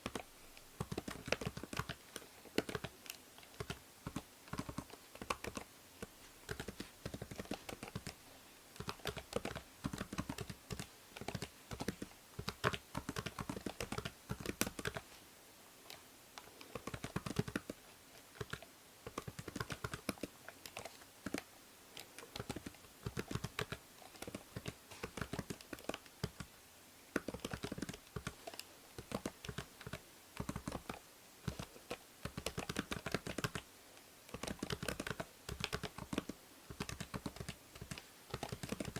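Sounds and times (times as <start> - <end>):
typing on computer keyboard: 0.0 - 8.2, 8.8 - 15.0, 15.9 - 26.5, 27.2 - 33.7, 34.3 - 38.9
faint microphone hiss: 0.0 - 38.9.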